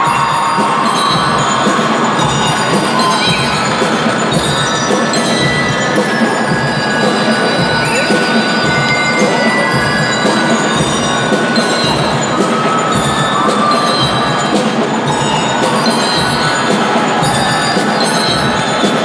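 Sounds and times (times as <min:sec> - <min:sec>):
bell-like mallet tones: 0:00.0 - 0:19.0
marching band playing: 0:00.0 - 0:19.0
percussion strikes: 0:00.0 - 0:19.0.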